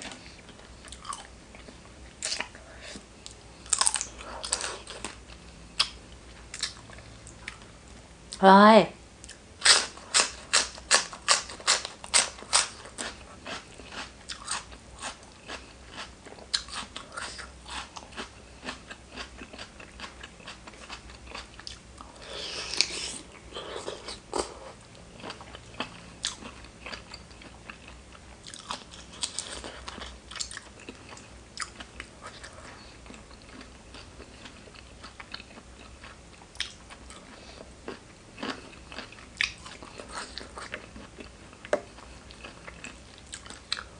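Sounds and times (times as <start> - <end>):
person crunching food: 0.0 - 2.6, 3.2 - 7.6, 9.2 - 43.9
person chewing: 0.0 - 7.7, 9.2 - 43.9.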